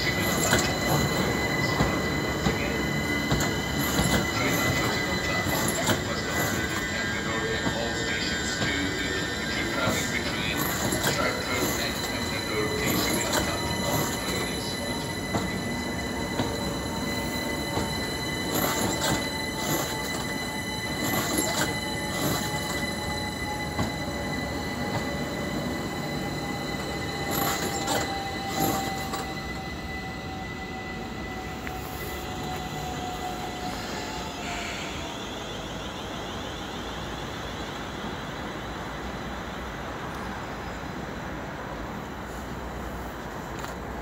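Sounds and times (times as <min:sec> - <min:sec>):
high squeal: 0:00.0 - 0:39.4
electric train passing: 0:00.0 - 0:44.0.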